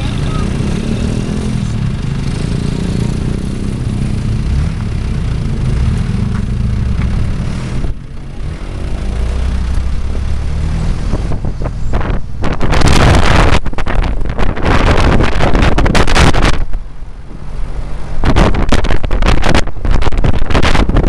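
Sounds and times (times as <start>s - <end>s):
road noise: 0.0s - 21.0s
vehicle engine running: 0.0s - 21.0s
wind buffeting microphone: 0.0s - 21.0s.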